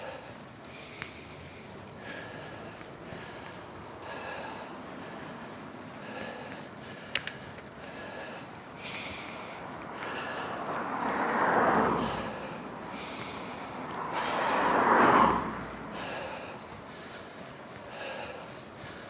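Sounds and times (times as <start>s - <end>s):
cyclist breathing: 0.0s - 19.0s
vehicles passing: 0.0s - 19.0s.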